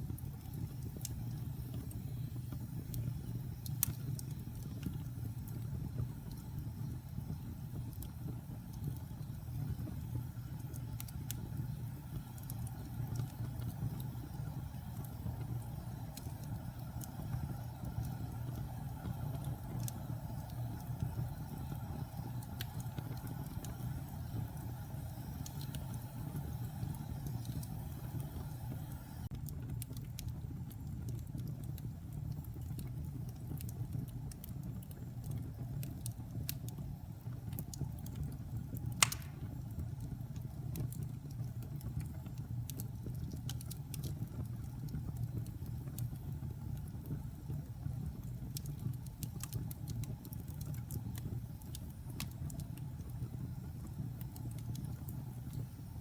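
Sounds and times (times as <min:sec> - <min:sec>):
fire crackling and popping: 0:00.0 - 0:56.0
fire rumbling in fireplace: 0:00.0 - 0:56.0.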